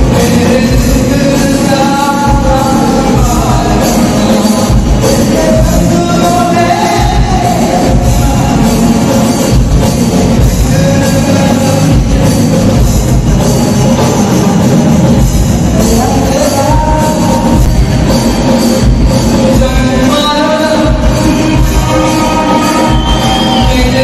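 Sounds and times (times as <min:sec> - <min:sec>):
person singing: 0:00.0 - 0:12.7, 0:13.8 - 0:24.0
heavy bass beat: 0:00.0 - 0:24.0.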